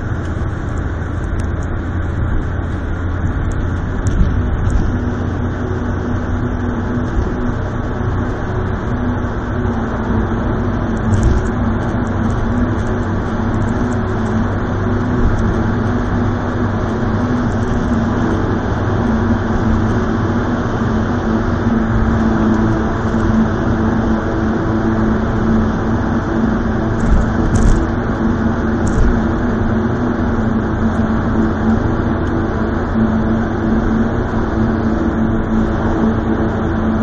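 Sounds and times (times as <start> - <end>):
car engine and tyre noise: 0.0 - 37.0.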